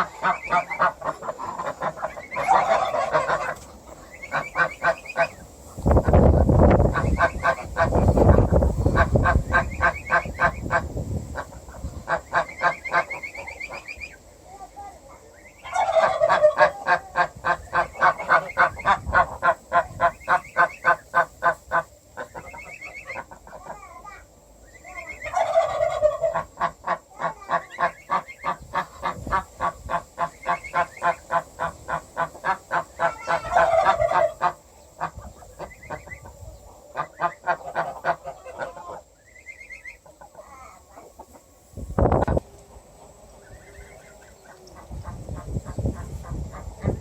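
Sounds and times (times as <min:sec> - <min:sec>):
geese honking: 0:00.0 - 0:14.2, 0:15.5 - 0:23.8, 0:24.8 - 0:41.6.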